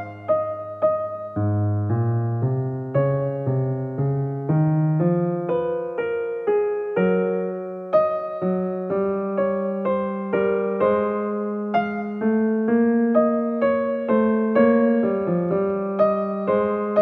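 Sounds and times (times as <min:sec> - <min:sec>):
piano keyboard melody: 0:00.0 - 0:17.0.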